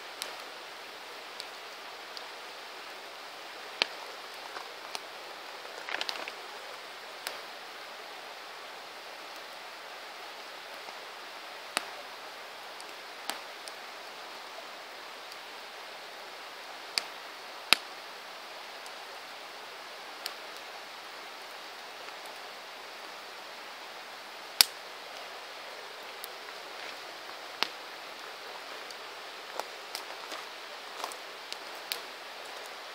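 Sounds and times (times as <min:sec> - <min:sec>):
campfire hissing: 0:00.0 - 0:32.9
fire crackling and popping: 0:00.1 - 0:32.9.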